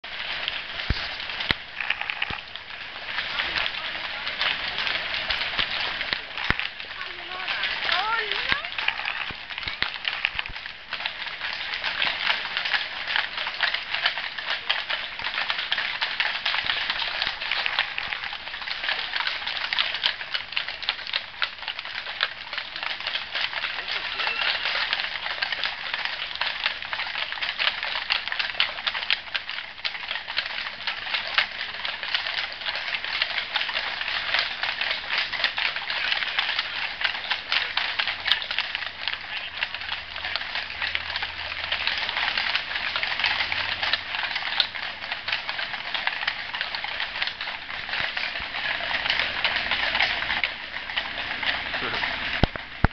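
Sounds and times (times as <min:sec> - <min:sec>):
horse hooves on asphalt: 0:00.0 - 0:52.9.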